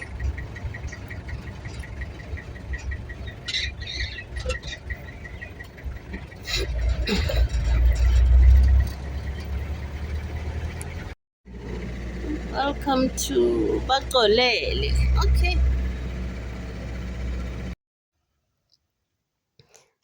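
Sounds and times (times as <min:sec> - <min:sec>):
engine and road rumble: 0:00.0 - 0:17.8.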